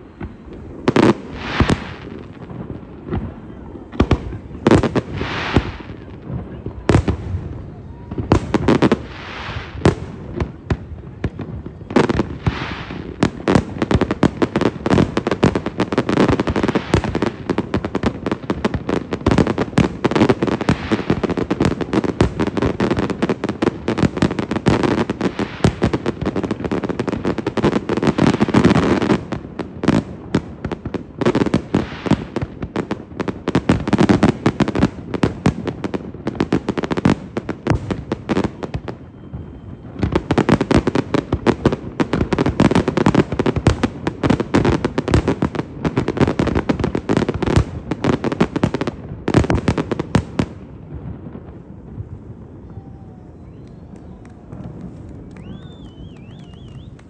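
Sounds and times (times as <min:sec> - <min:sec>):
fireworks bangs: 0:00.0 - 0:57.0
fireworks crackling: 0:00.0 - 0:57.0.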